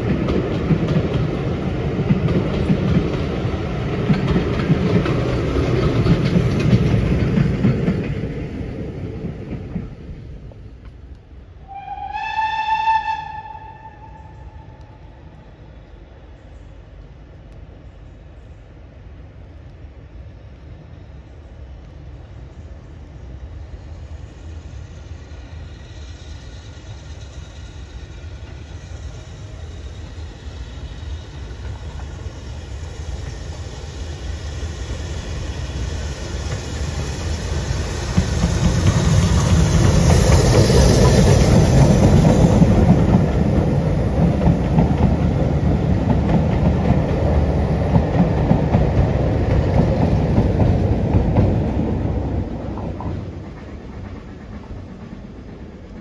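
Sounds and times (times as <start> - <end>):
steam locomotive passing: 0.0 - 56.0
train coaches rolling past: 0.0 - 56.0.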